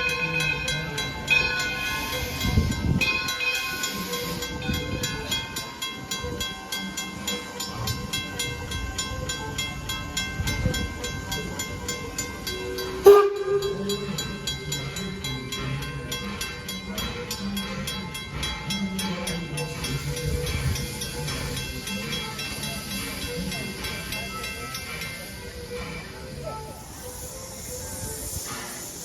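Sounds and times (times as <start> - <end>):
train clicking on rails: 0.0 - 29.0.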